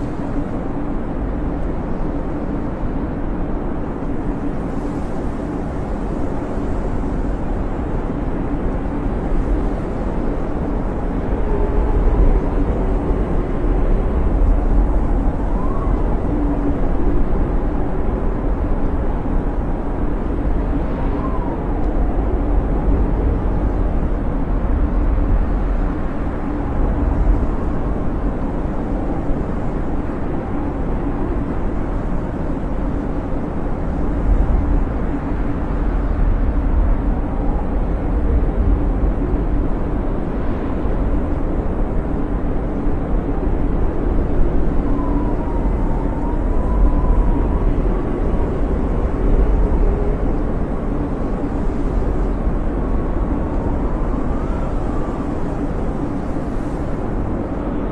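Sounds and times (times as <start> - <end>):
blizzard wind with deep rumble: 0.0 - 57.9
whistling wind howl: 0.0 - 57.9.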